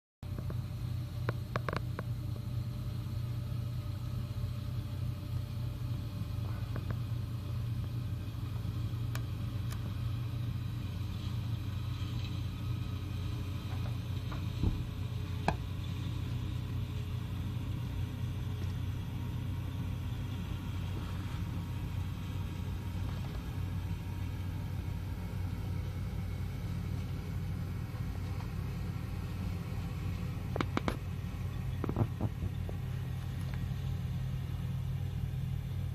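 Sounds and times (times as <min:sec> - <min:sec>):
combine harvester droning: 0:00.2 - 0:35.9.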